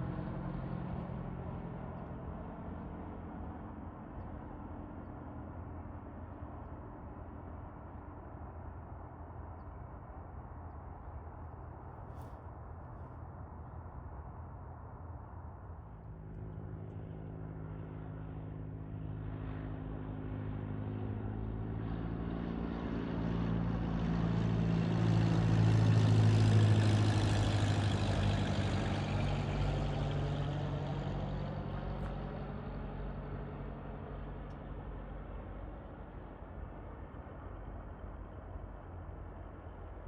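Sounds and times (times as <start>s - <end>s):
airplane engine drone: 0.0s - 40.0s.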